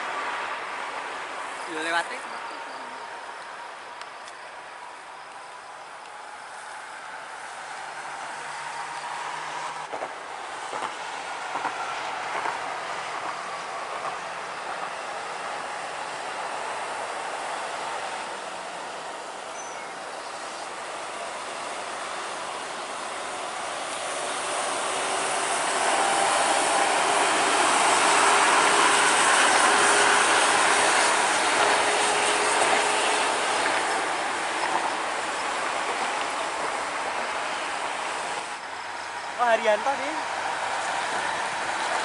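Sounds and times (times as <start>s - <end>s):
coach passing by: 6.1s - 42.0s.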